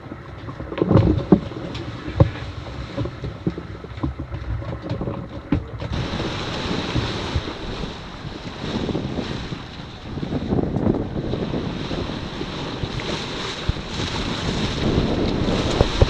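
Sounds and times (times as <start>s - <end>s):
water washing past hull: 0.0s - 16.0s
wind buffeting microphone: 0.0s - 16.0s.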